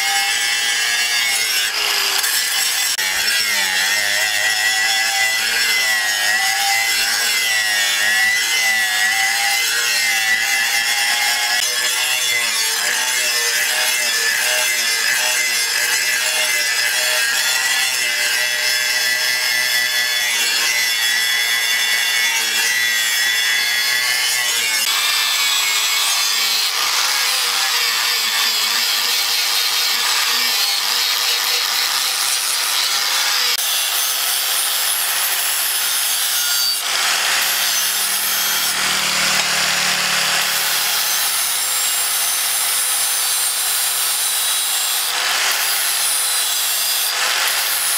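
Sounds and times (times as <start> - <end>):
angle grinder grinding steel: 0.0 - 47.9.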